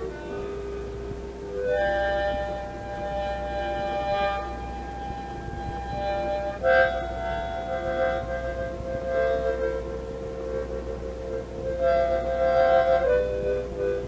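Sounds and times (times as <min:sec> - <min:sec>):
harmonica chords: 0:00.0 - 0:14.0
steady low hum: 0:00.0 - 0:14.0.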